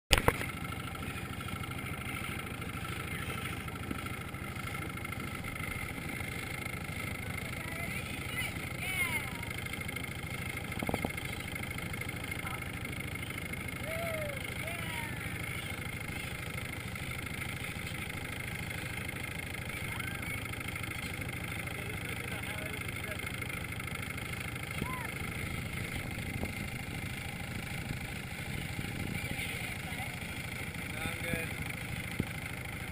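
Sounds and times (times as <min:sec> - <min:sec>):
motorboat engine running: 0:00.1 - 0:32.9.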